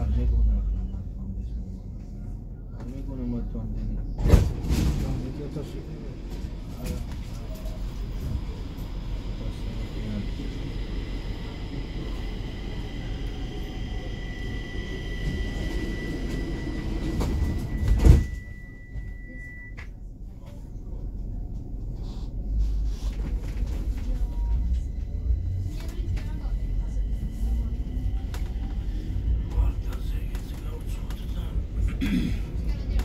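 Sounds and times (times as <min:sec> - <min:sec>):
train rumble and high whine: 0:00.0 - 0:33.0.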